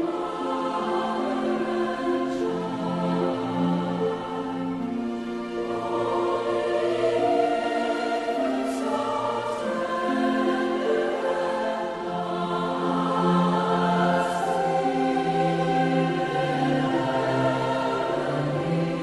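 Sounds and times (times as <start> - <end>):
choir singing slow notes: 0.0 - 19.0.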